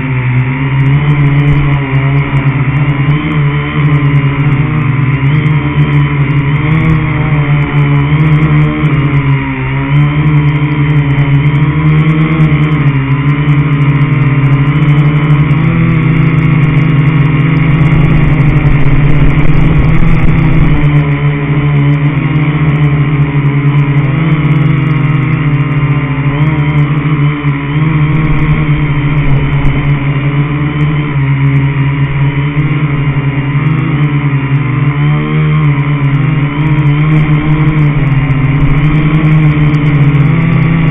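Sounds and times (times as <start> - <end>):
drone motors buzzing: 0.0 - 40.9.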